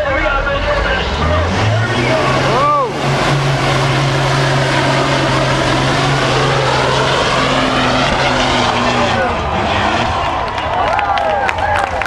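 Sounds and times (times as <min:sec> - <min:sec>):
diesel truck engine at full throttle: 0:00.0 - 0:12.0.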